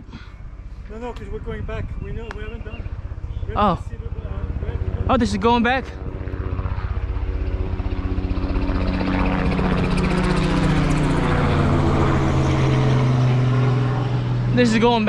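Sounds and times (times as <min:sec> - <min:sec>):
motor engine passing: 0:00.0 - 0:15.0.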